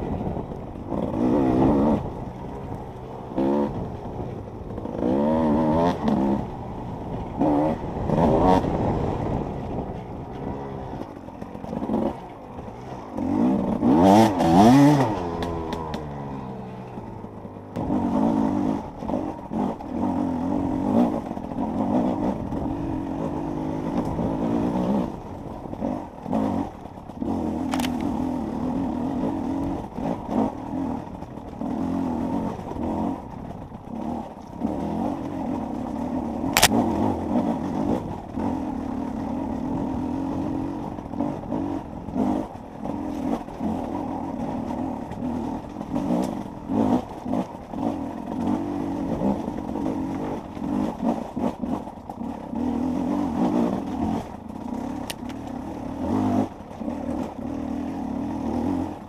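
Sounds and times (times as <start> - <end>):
dirt bike engine revving: 0.1 - 17.0, 17.8 - 33.3, 33.9 - 59.0.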